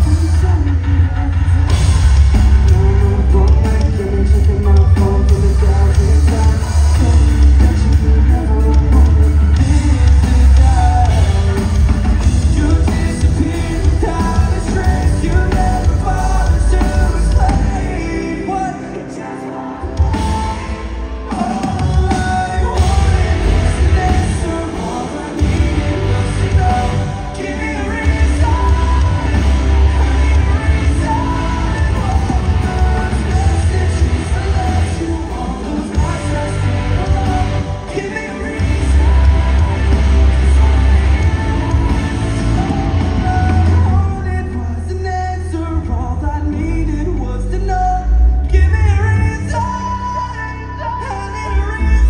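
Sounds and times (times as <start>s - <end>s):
bass: 0.0s - 52.0s
drums: 0.0s - 52.0s
electric guitars: 0.0s - 52.0s
live rock band playing: 0.0s - 52.0s
person singing: 0.0s - 52.0s.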